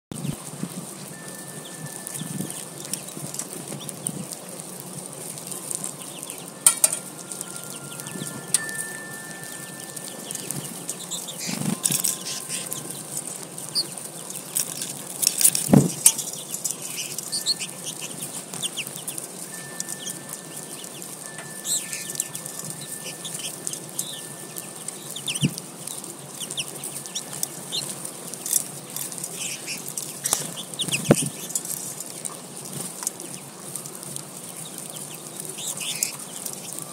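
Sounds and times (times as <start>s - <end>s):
birds chirping: 1.0s - 36.9s.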